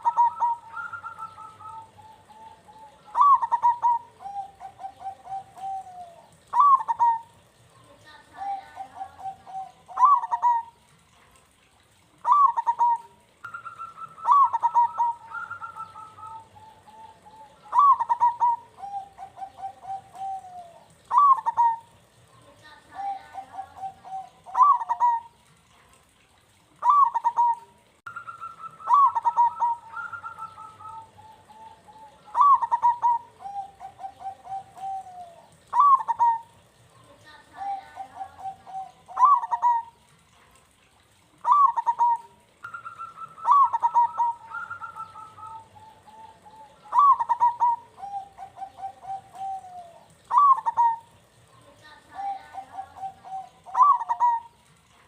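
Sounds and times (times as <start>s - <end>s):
dove cooing: 0.0s - 40.4s, 41.1s - 55.0s.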